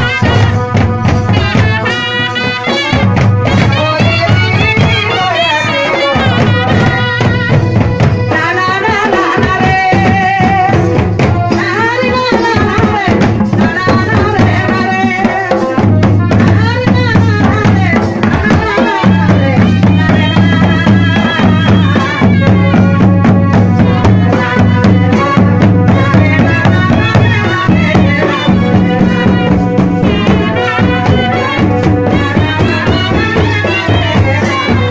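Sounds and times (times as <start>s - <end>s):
hand drum beating: 0.0s - 34.9s
man singing into a microphone: 3.5s - 34.9s.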